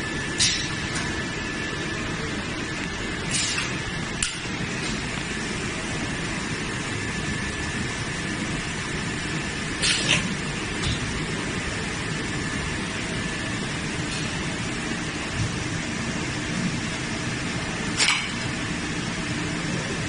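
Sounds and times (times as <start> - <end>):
machine hum and whine: 0.0 - 20.0.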